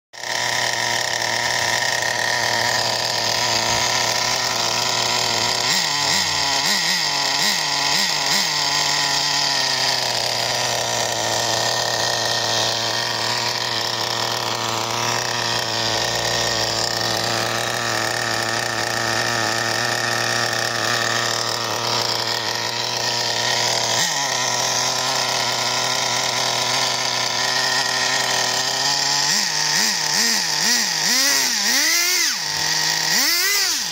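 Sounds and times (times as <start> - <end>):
model engine idling and revving: 0.2 - 33.9.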